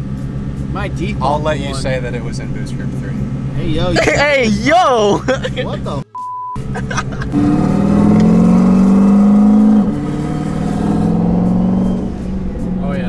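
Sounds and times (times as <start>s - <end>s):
car engine accelerating: 0.0s - 6.0s, 6.6s - 13.0s.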